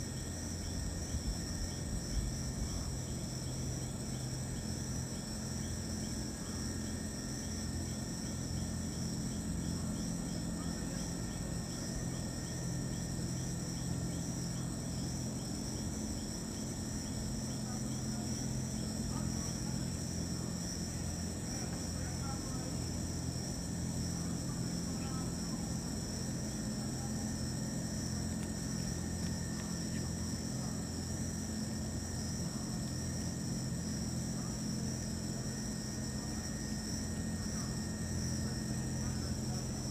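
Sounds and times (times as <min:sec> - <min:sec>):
crickets trilling: 0:00.0 - 0:39.9
steady low hum: 0:00.0 - 0:39.9.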